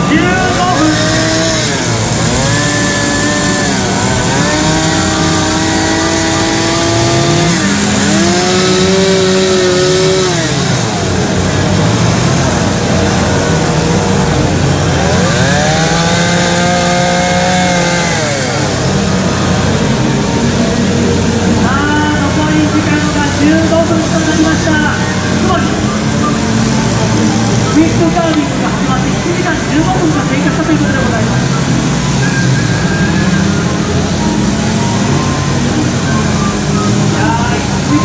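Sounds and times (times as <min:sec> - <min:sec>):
chainsaws revving: 0:00.0 - 0:38.0.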